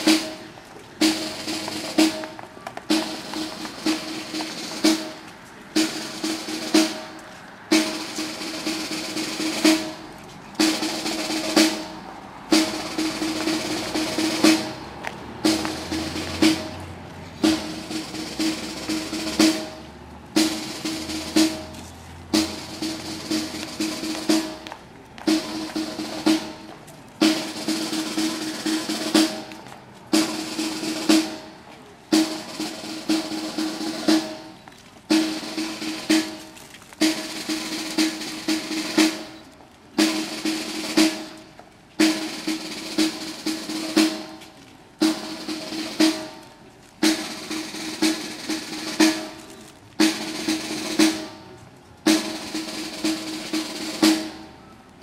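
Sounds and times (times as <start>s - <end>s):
snare drum roll: 0.0s - 54.7s.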